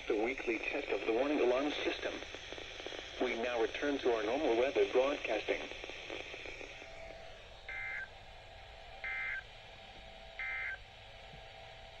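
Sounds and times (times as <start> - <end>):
steady radio hiss: 0.0 - 12.0.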